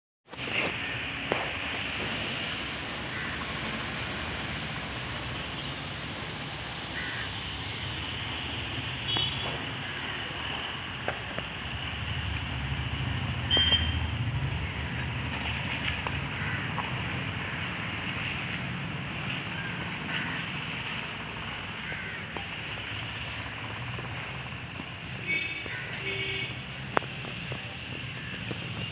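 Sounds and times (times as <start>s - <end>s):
road traffic: 0.2s - 28.9s.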